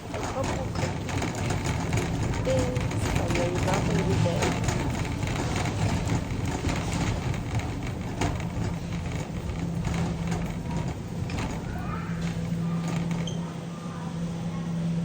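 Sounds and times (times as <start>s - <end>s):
wire basket rattling: 0.0s - 13.4s
shopping cart wheels rumbling: 0.0s - 15.0s
steady low hum: 0.0s - 15.0s.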